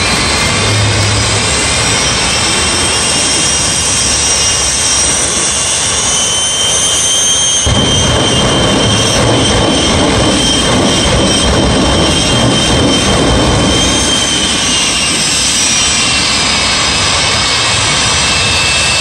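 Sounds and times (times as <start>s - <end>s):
deep rumble: 0.0s - 19.0s
high whistling whine: 0.0s - 19.0s
jet engine roar: 0.0s - 19.0s.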